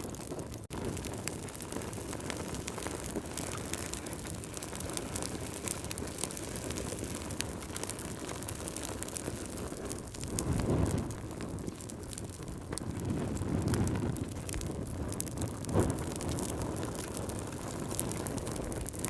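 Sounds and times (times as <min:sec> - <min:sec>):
fire popping and snapping: 0:00.0 - 0:19.0
low rumble of flames: 0:00.0 - 0:19.0.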